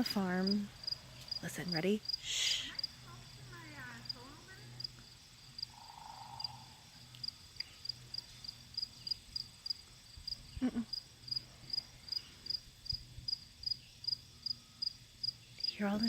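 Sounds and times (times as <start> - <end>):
crickets chirping: 0.0 - 16.0
faint insect drone: 0.0 - 16.0.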